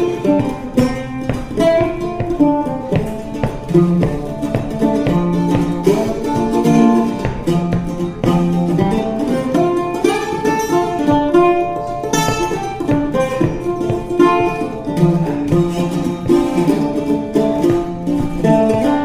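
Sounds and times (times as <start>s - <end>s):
mandola melody: 0.0s - 19.0s.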